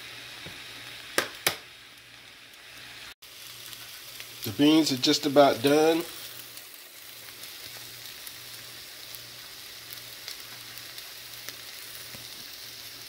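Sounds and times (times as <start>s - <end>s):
beans sizzling in oil: 0.0s - 13.0s.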